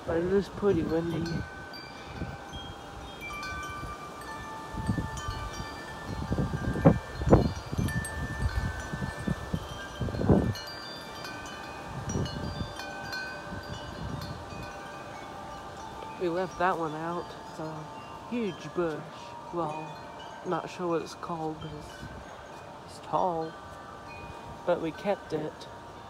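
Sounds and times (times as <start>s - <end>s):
wind buffeting microphone: 0.0s - 26.0s
wind chimes ringing: 0.0s - 26.0s.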